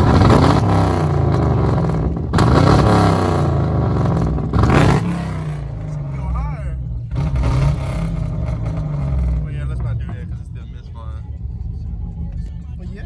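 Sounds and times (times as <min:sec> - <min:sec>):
car exhaust revving: 0:00.0 - 0:12.4.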